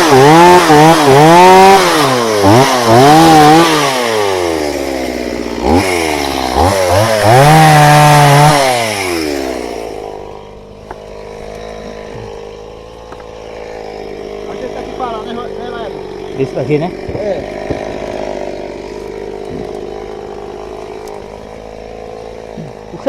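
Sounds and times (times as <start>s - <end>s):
chainsaw revving and idling: 0.0s - 23.0s.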